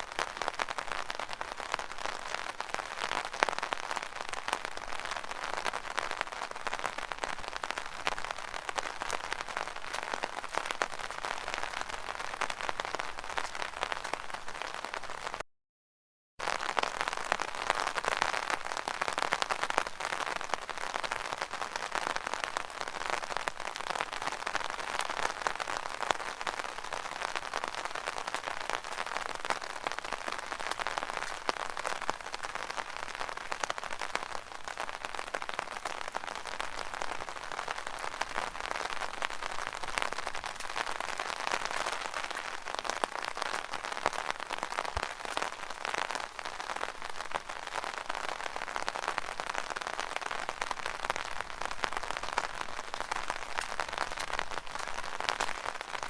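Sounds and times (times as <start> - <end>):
rain pattering on umbrella: 0.0 - 15.4, 16.4 - 56.0.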